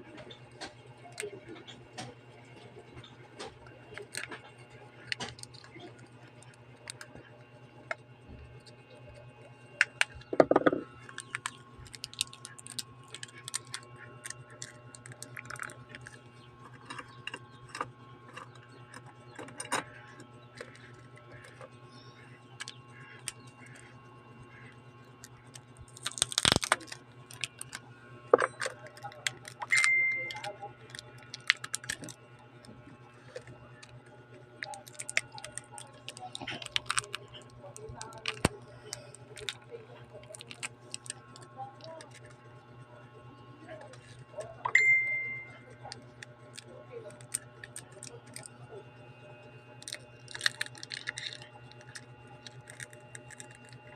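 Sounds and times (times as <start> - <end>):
low hum: 0.0 - 53.9.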